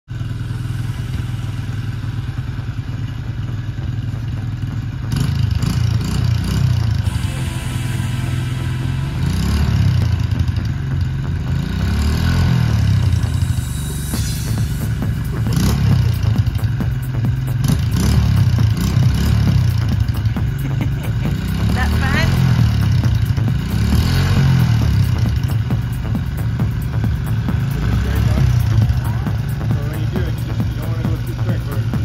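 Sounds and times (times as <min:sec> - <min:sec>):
dirt bike engine revving: 0:05.0 - 0:32.0.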